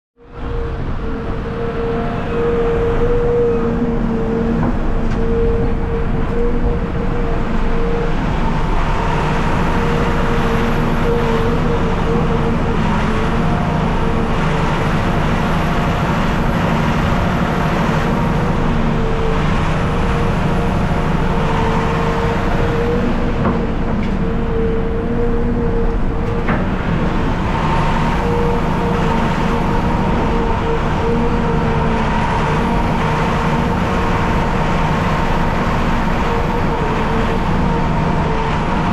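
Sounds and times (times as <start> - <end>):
steady machine whine: 0.2 - 38.9
excavator loading dirt: 0.4 - 38.9.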